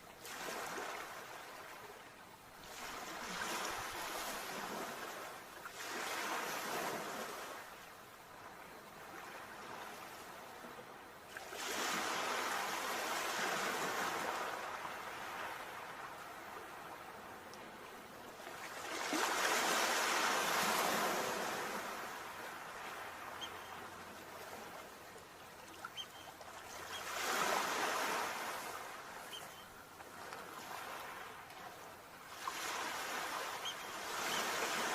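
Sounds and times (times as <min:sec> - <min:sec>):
sea waves breaking: 0:00.2 - 0:02.0, 0:02.6 - 0:07.7, 0:11.3 - 0:34.9.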